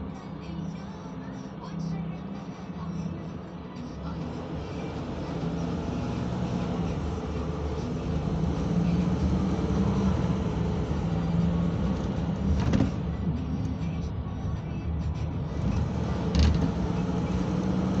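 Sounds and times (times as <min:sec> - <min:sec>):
diesel engine drone: 0:00.0 - 0:18.0
road noise: 0:00.0 - 0:18.0.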